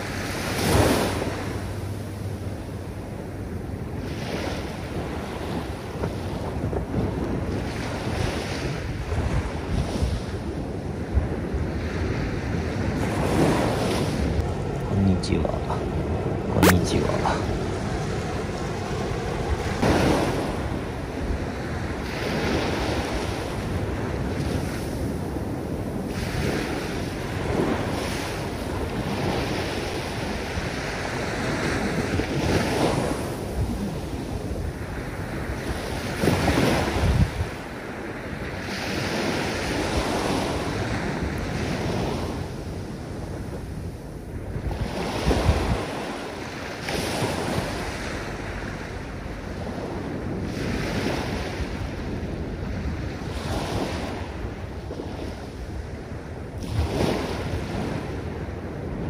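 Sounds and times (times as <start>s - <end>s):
small waves breaking on sand: 0.0s - 59.0s
wind buffeting microphone: 0.0s - 59.0s.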